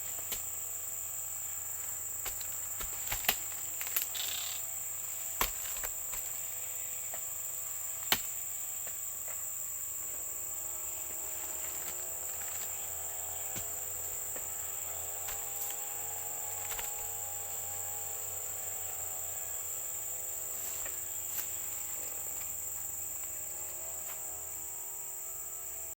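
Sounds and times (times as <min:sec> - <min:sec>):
faint droning hum: 0:00.0 - 0:25.9
insects chirping: 0:00.0 - 0:26.0.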